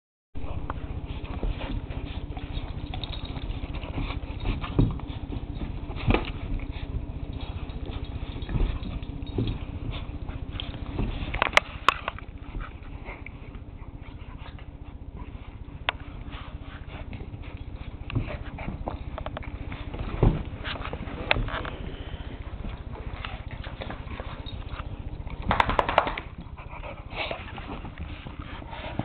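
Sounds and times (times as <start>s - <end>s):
steady low hum: 0.4s - 29.0s
dogs scuffling on carpet: 0.5s - 29.0s.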